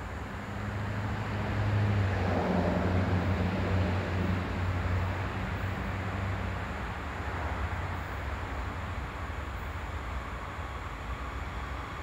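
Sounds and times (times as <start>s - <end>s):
locomotive engine drone: 0.0s - 12.0s.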